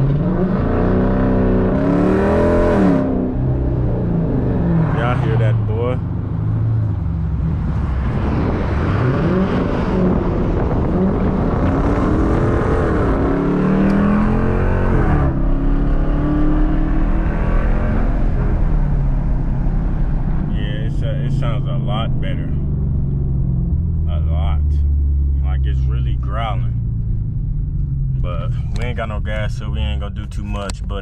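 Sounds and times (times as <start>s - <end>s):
car exhaust growling: 0.0s - 31.0s.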